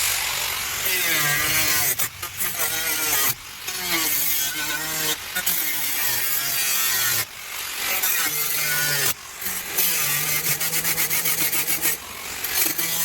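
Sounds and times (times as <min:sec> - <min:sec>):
angle grinder cutting sheet steel: 0:00.0 - 0:13.0.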